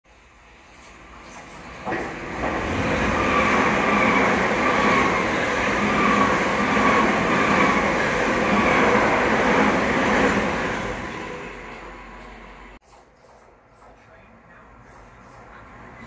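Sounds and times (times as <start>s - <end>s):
train wheels rushing on rail: 0.5s - 16.0s.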